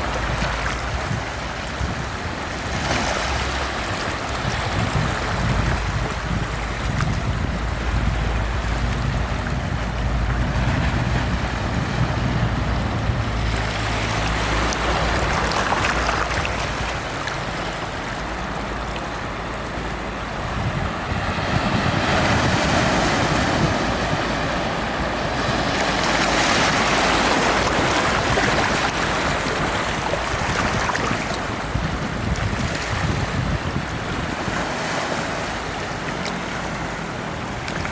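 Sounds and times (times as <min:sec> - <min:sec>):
ocean waves breaking: 0:00.0 - 0:37.9.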